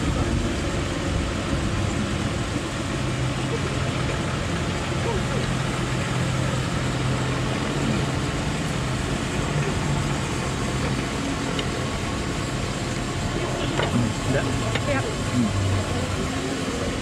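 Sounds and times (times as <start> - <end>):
constant background noise: 0.0 - 17.0
low motor hum: 0.0 - 17.0.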